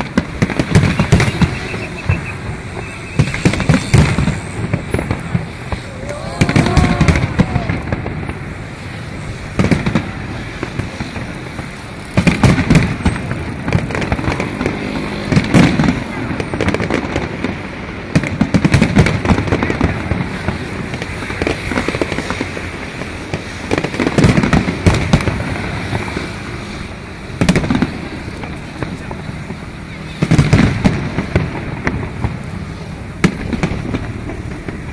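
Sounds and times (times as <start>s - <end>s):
firework shells booming: 0.0s - 34.9s
fireworks crackling: 0.0s - 34.9s.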